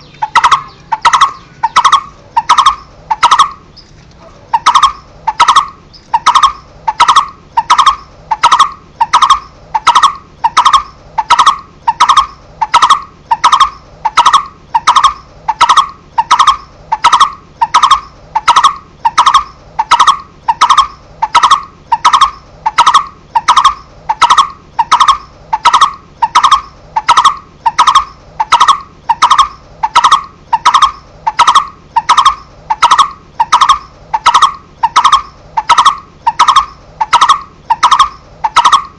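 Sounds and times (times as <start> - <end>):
bird calling single notes: 0.0 - 38.9.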